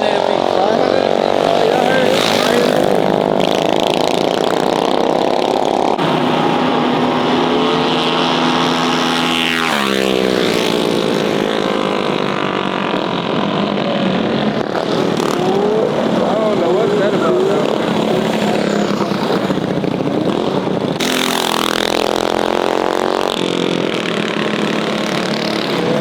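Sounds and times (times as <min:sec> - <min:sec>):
bike passing by: 0:00.0 - 0:26.0
mini bike engines revving high: 0:00.0 - 0:26.0.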